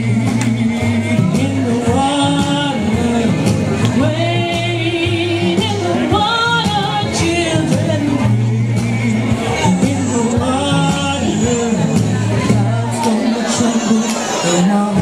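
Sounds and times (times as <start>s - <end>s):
woman singing into microphone: 0.0s - 8.9s, 9.6s - 15.0s
instrumental accompaniment: 0.0s - 15.0s.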